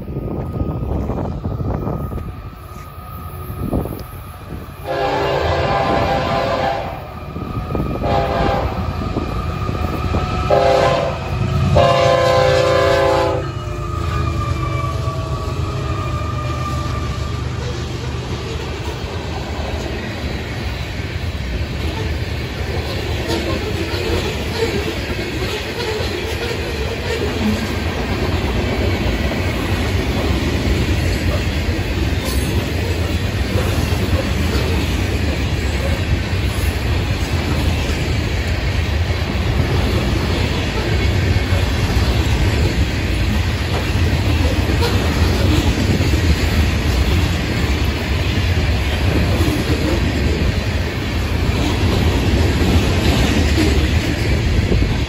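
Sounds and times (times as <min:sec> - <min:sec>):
freight cars rolling on rails: 0:00.0 - 0:55.0.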